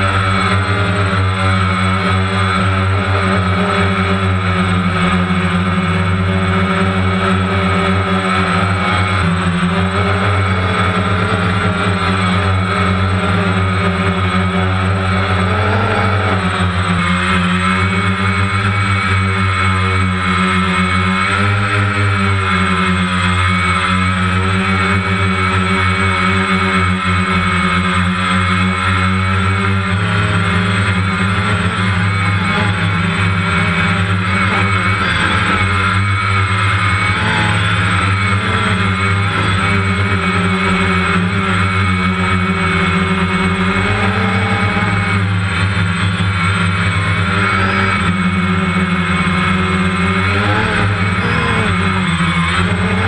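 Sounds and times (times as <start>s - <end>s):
drone propellers humming: 0.0s - 53.0s.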